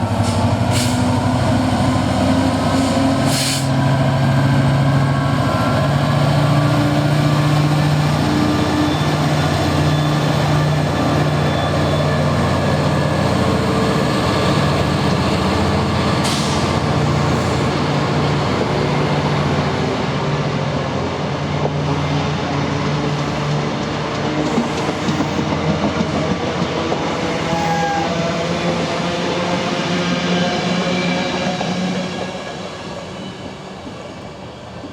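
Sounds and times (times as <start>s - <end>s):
locomotive engine drone: 0.0s - 34.9s
train wheels rolling on rails: 0.0s - 34.9s.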